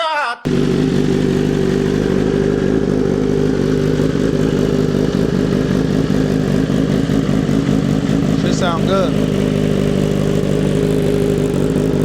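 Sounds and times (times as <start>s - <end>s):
motorcycle engine idling: 0.5s - 12.0s.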